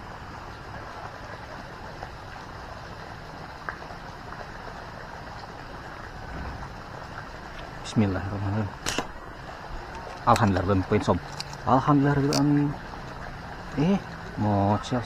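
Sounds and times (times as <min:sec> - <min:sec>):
low rushing background noise: 0:00.0 - 0:15.0.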